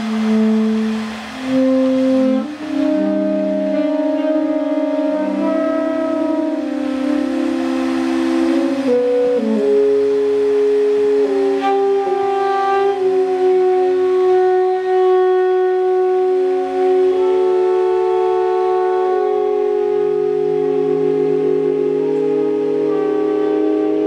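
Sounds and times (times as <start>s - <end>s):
sustained instrument chord: 0.0s - 24.0s.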